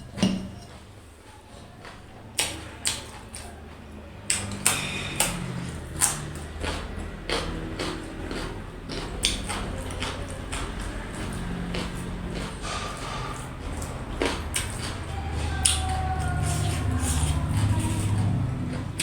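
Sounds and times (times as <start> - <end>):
eating clicks and smacks: 1.8 - 3.6, 4.2 - 19.0.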